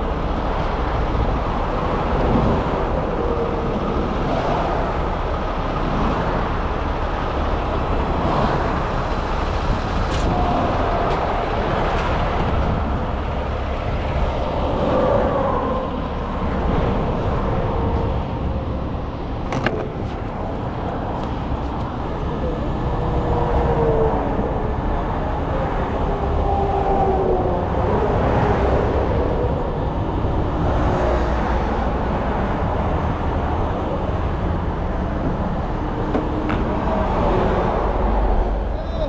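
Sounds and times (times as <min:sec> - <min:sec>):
road traffic: 0:00.0 - 0:39.0.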